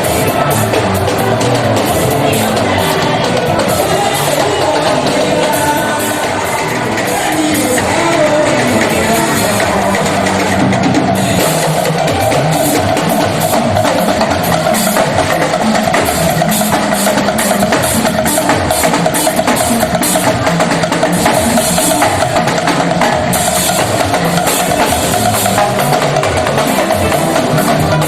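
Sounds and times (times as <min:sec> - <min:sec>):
busy drums: 0:00.0 - 0:28.0
church band music: 0:00.0 - 0:28.0
hand percussion: 0:00.0 - 0:28.0.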